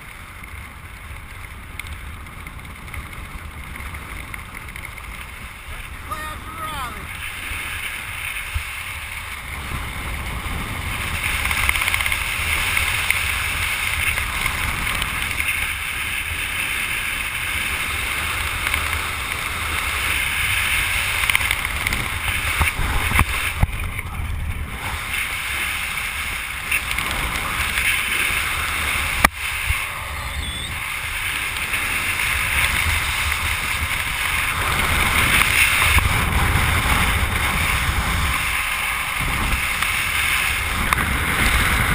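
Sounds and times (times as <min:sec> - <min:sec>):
wind buffeting microphone: 0:01.7 - 0:41.9.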